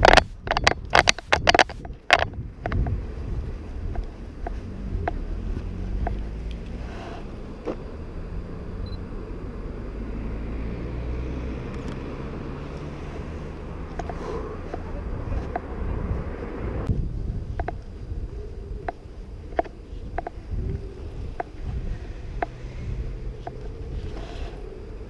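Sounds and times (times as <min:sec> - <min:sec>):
city traffic rumble: 0:00.0 - 0:25.0.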